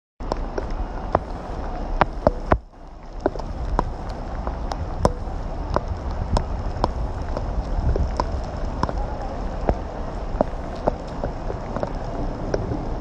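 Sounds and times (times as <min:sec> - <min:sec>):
low wind rumble: 0:00.2 - 0:13.0
raindrops tapping: 0:00.2 - 0:13.0
rain hissing: 0:00.5 - 0:13.0.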